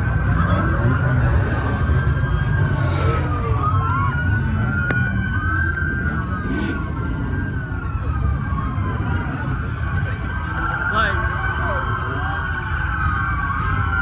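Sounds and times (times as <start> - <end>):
low rumble of engines: 0.0 - 14.0
police sirens wailing: 0.0 - 14.0.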